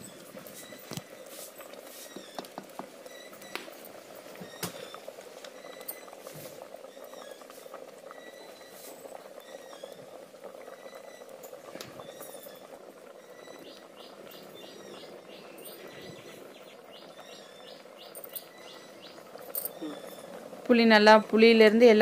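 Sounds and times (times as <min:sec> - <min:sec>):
pot bubbling: 0:00.0 - 0:22.0
wood fire popping and crackling: 0:00.0 - 0:22.0.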